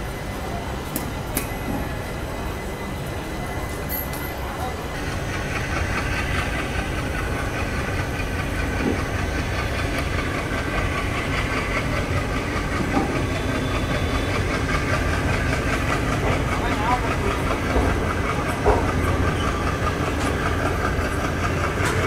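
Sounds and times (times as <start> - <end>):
train coach rumbling: 0.0 - 22.0.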